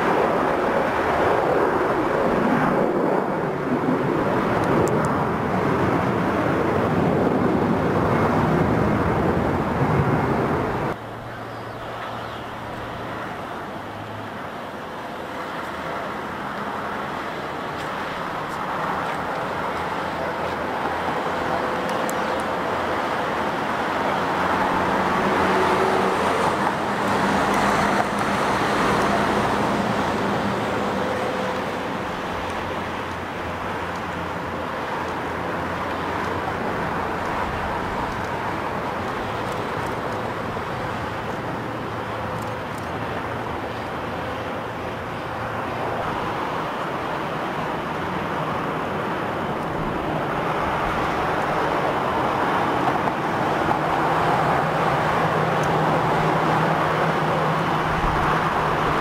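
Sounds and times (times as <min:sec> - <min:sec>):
jet engine roar: 0:00.0 - 0:59.0
landing jet engines: 0:00.0 - 0:59.0.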